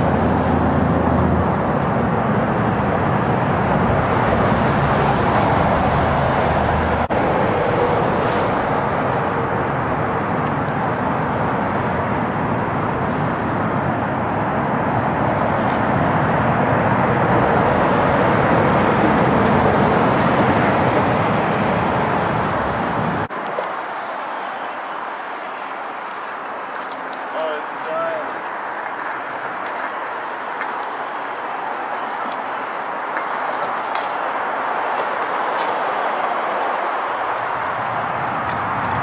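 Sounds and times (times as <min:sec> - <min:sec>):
freeway traffic roar: 0:00.0 - 0:39.0.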